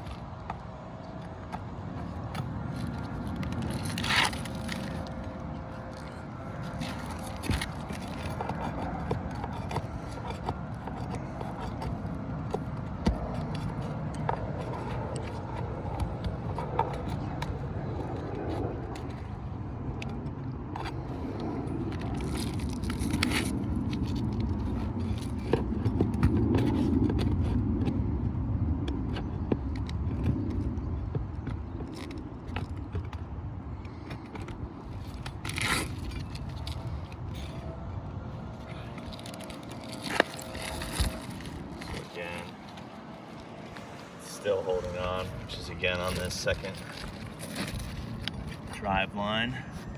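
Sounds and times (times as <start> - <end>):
pry bar scraping shingle: 0.0 - 49.9.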